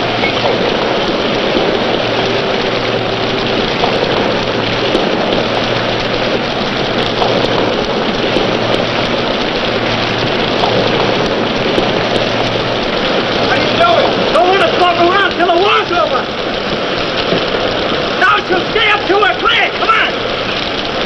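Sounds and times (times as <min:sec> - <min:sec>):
rain and wind rushing: 0:00.0 - 0:21.0.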